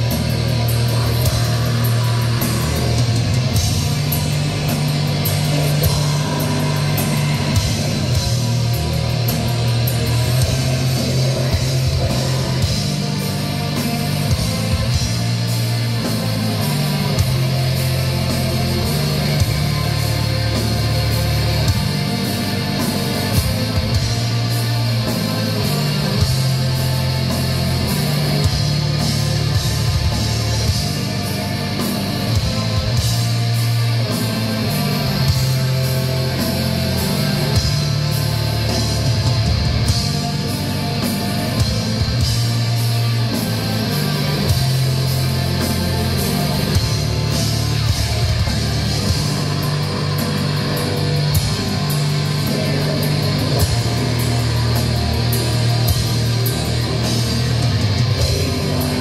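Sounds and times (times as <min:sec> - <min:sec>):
live metal band playing: 0:00.0 - 0:59.0.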